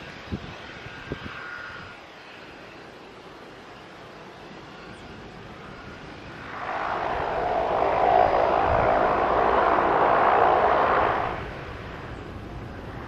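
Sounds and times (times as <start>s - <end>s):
turboprop engines roaring: 0.0s - 13.0s.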